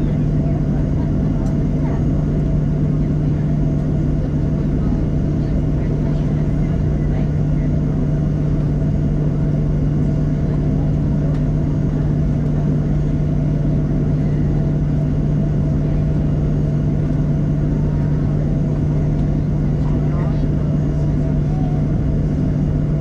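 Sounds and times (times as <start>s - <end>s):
airliner engines humming: 0.0s - 23.0s.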